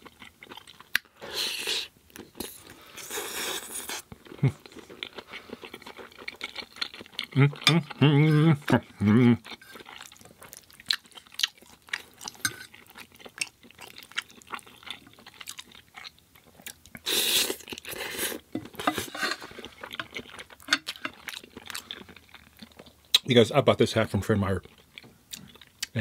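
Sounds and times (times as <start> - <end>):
chewing with mouth clicks: 0.0 - 23.3, 24.6 - 26.0.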